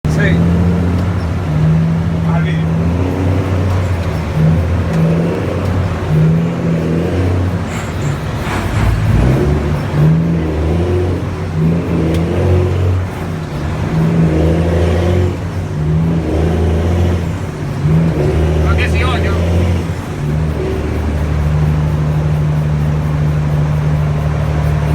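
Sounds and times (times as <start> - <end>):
diesel truck engine rumbling: 0.0 - 24.9.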